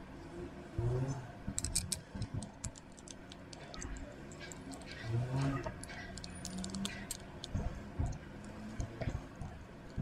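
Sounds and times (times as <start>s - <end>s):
plastic parts clicking: 1.5s - 10.0s.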